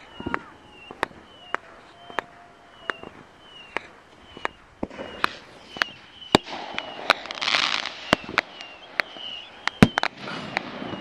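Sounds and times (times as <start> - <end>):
firework bangs: 0.0 - 11.0
firework crackle: 0.0 - 11.0
firework whistles: 0.0 - 11.0.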